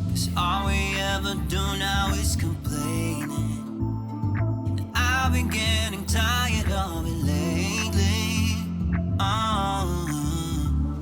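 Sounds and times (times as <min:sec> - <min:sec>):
pop song with sung lyrics: 0:00.0 - 0:11.0.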